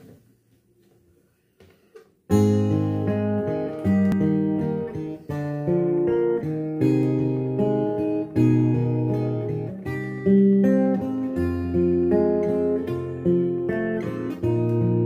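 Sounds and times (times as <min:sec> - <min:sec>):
acoustic guitar strummed chords: 0:02.3 - 0:15.0.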